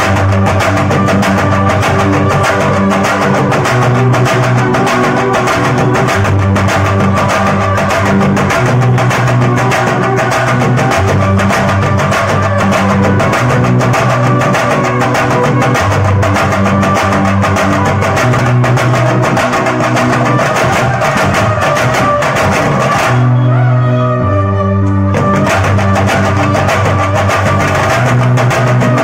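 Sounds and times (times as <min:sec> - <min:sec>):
drum ensemble playing rapid rhythm: 0:00.0 - 0:23.4, 0:25.0 - 0:29.0
violin melody: 0:00.0 - 0:29.0.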